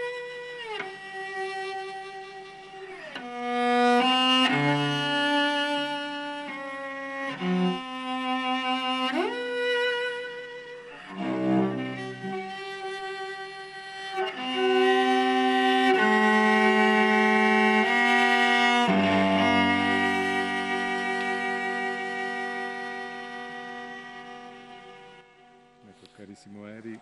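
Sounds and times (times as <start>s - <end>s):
bowed cello: 0.0s - 27.0s.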